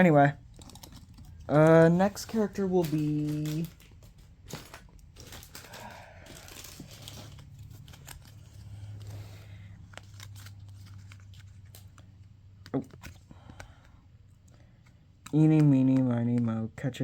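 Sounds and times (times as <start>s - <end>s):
packaging crinkling: 0.0s - 13.9s
low steady hum: 0.0s - 17.0s.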